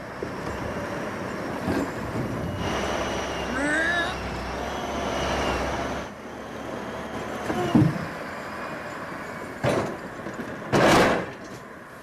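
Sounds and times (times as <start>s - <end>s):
log loader engine running: 0.0s - 12.0s.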